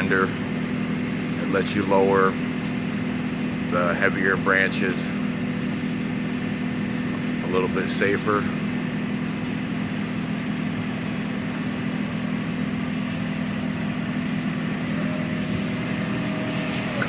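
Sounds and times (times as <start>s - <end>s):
small engine running steadily: 0.0s - 17.0s.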